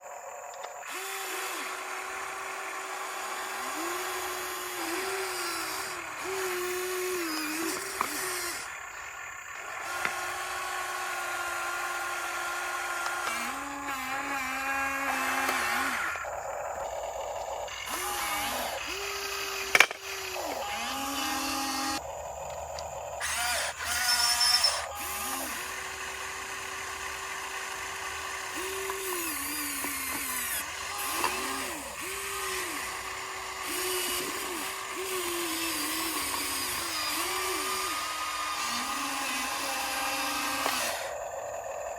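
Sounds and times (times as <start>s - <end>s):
small electric motors whining: 0.0s - 41.9s.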